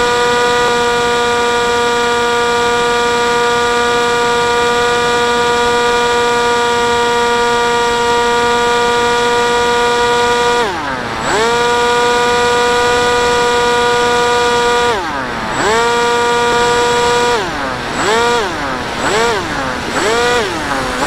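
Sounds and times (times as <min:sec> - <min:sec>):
model plane motor and propeller: 0:00.0 - 0:21.0.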